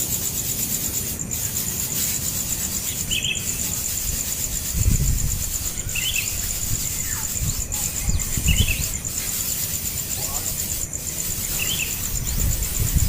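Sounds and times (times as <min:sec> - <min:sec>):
pulsing insect chirr: 0:00.0 - 0:13.0
bird chirps: 0:01.3 - 0:13.0.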